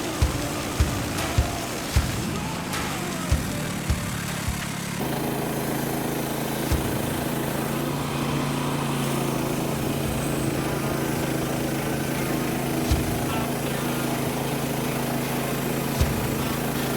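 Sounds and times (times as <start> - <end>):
sharp knocks: 0.0 - 5.3, 6.6 - 15.0, 15.9 - 16.9
small gas engine running: 0.0 - 16.9.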